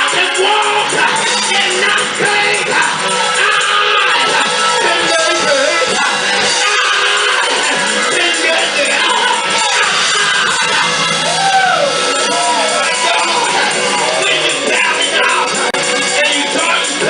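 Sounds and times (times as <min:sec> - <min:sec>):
live gospel music: 0:00.0 - 0:17.0
voices singing and shouting: 0:00.0 - 0:17.0.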